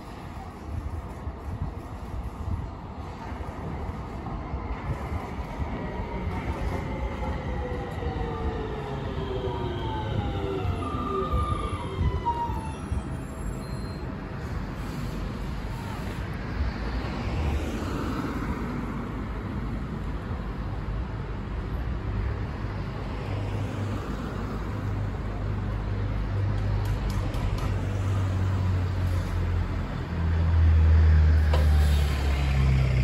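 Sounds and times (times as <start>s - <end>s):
street traffic: 0.0s - 33.0s
tram low hum: 0.0s - 33.0s.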